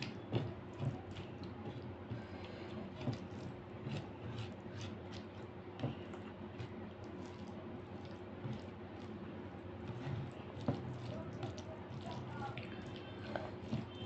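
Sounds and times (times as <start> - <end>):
fingers squishing wet rice: 0.0 - 14.0.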